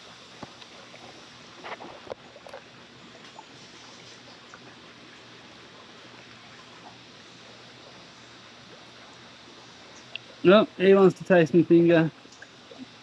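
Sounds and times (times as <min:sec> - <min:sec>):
hiss of running water: 0:00.0 - 0:13.0.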